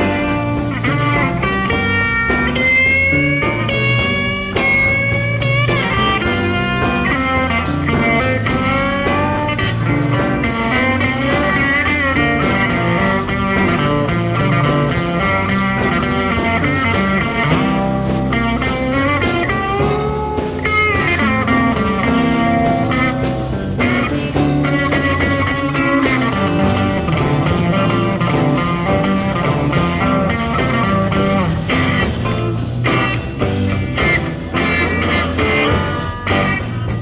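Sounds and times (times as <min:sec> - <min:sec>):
bass guitar: 0:00.0 - 0:37.0
drums: 0:00.0 - 0:37.0
electric lead guitar: 0:00.0 - 0:37.0.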